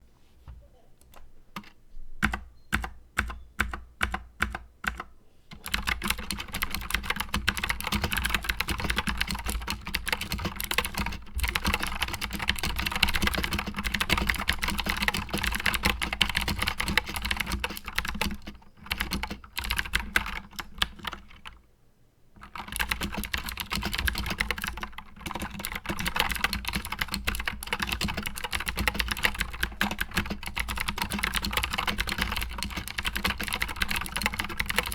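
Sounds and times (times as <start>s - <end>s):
clicky mechanical keyboard typing: 1.0s - 21.6s, 22.4s - 34.9s.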